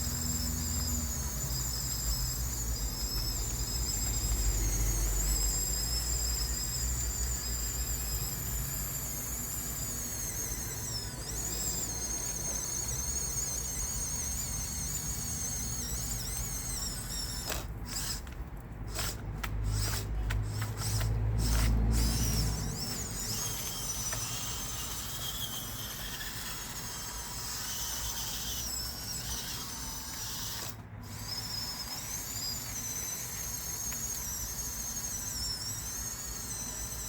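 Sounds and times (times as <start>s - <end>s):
electric motors whining: 0.0s - 37.0s.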